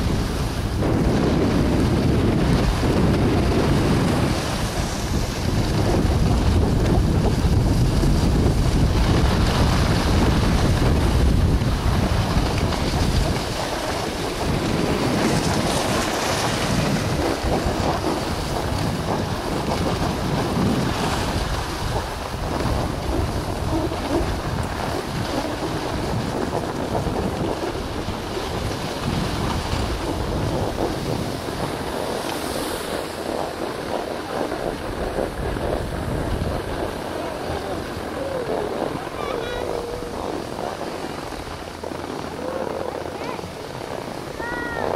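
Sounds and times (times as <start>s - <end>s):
skis sliding over snow: 0.0s - 44.9s
wind rushing over microphone: 0.0s - 44.9s.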